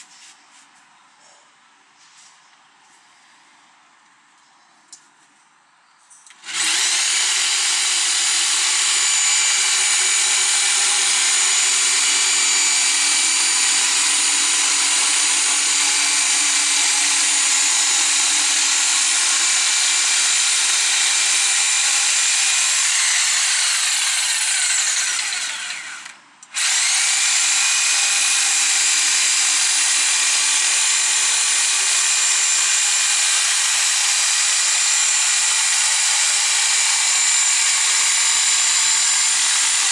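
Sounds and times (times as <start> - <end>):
jigsaw cutting chipboard: 6.4 - 39.9.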